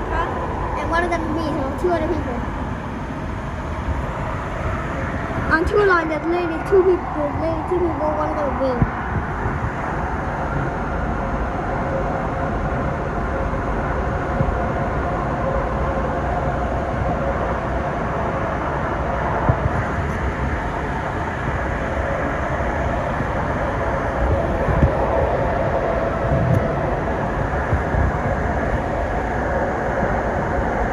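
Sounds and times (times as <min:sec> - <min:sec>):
light rail car rumble: 0:00.0 - 0:30.9.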